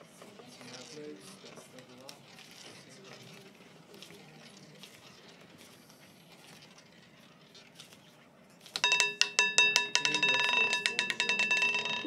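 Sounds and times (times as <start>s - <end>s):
roulette ball rolling: 0.4s - 12.0s.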